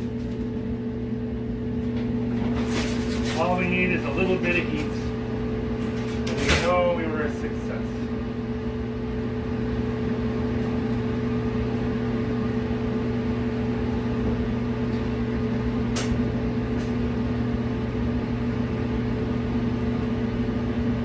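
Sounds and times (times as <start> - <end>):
clothes dryer humming: 0.0 - 21.0.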